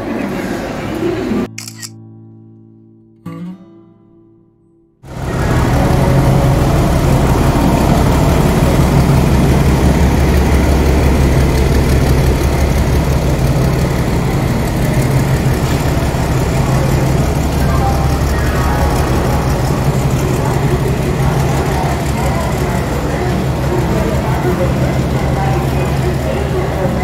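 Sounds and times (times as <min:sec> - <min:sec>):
locomotive low hum: 0:05.1 - 0:27.0.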